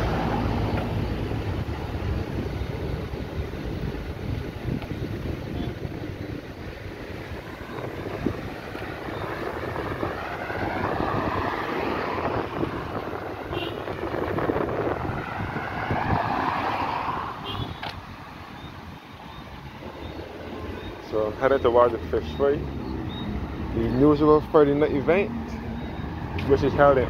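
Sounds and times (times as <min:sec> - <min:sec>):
cars passing by: 0:00.0 - 0:27.0.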